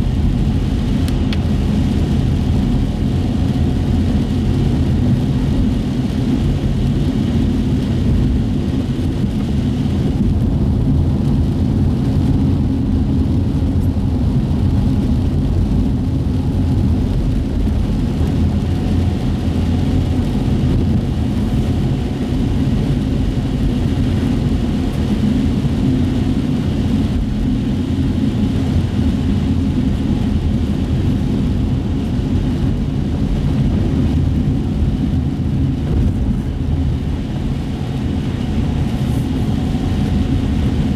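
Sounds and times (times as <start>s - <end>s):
car engine hum: 0.0s - 40.9s
tyres on wet pavement: 0.0s - 40.9s.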